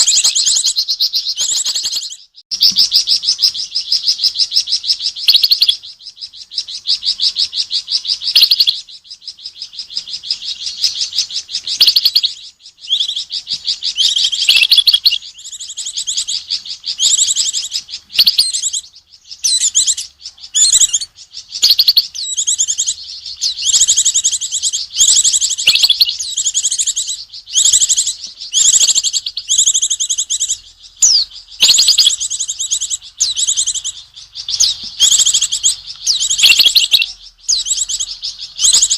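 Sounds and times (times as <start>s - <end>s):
songbird alarm chirps: 0.0s - 38.9s.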